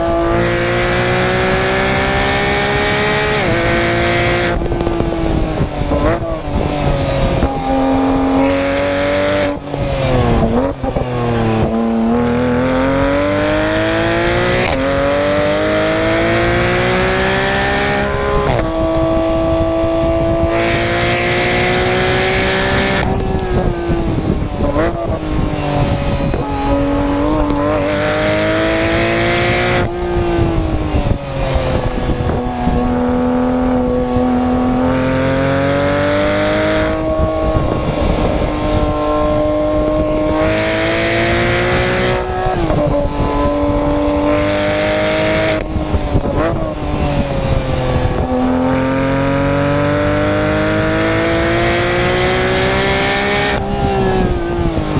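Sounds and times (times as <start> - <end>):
sports car engine revving: 0.0 - 54.9.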